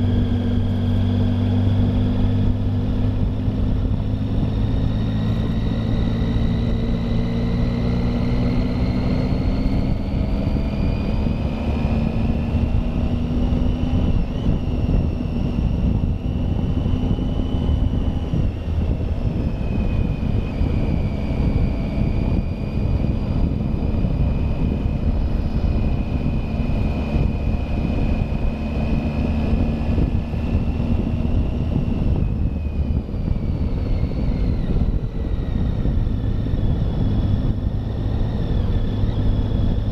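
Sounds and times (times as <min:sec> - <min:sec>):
motorcycle engine whine: 0:00.0 - 0:39.9
wind noise: 0:00.0 - 0:39.9.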